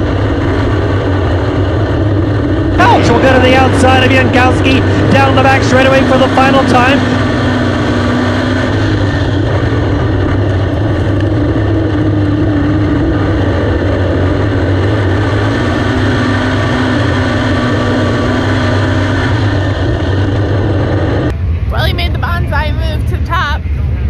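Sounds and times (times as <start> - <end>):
race car engine running: 0.0 - 24.0.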